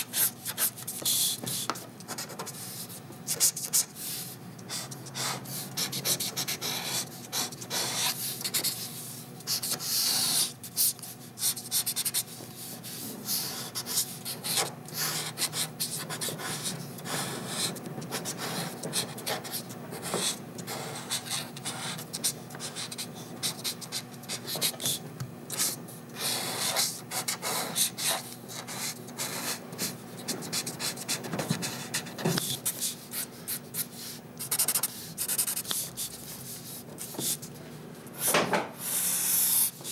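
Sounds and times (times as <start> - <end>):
pen scratching on paper: 4.7 - 8.9, 9.5 - 37.5.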